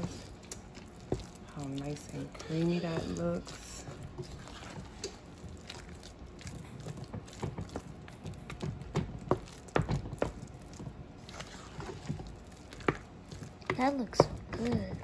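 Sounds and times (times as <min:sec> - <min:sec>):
spoon stirring mashed potatoes: 0:00.0 - 0:15.0.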